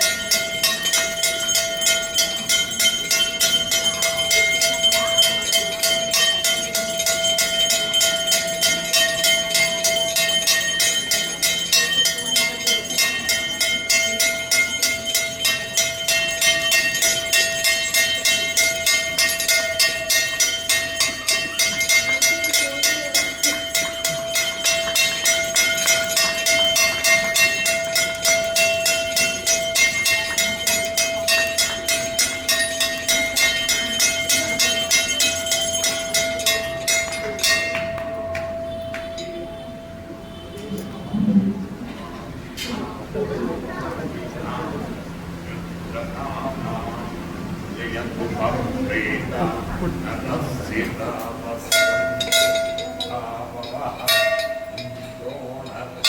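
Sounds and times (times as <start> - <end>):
temple bell rung rapidly: 0.0 - 56.0.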